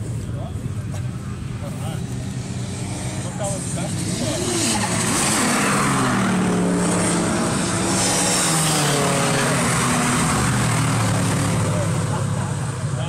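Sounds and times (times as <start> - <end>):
race cars passing at full throttle: 0.0 - 13.0.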